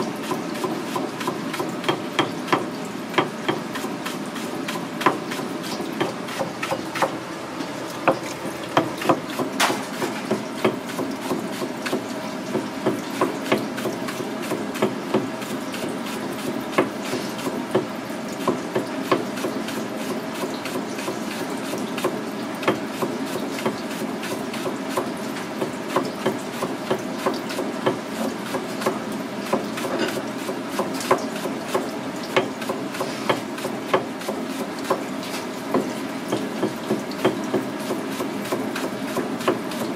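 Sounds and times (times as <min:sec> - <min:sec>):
tap water running into colander: 0:00.0 - 0:39.9
knife chopping on cutting board: 0:00.2 - 0:07.2, 0:08.0 - 0:39.9.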